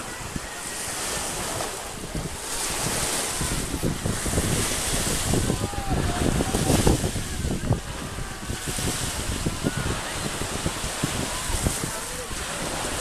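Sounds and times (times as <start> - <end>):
small waves breaking on pebbles: 0.0 - 13.0
wind buffeting microphone: 0.0 - 13.0.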